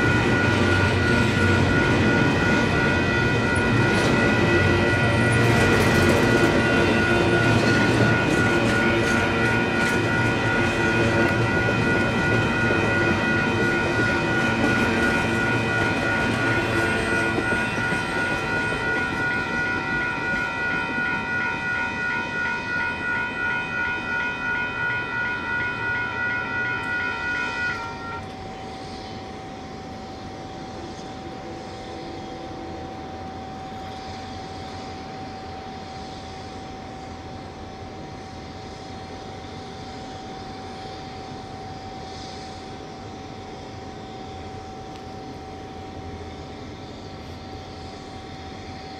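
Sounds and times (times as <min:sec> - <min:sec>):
freight train rumbling: 0:00.0 - 0:48.9
railroad crossing bells ringing: 0:00.0 - 0:48.9.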